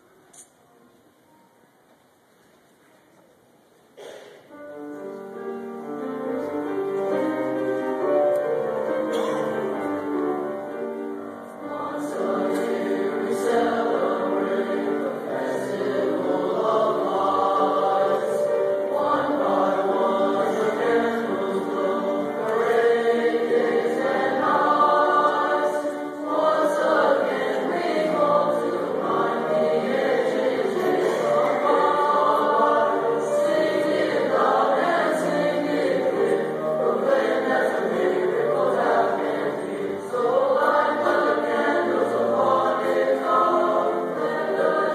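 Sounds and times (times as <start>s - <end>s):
choir singing: 5.8s - 44.9s.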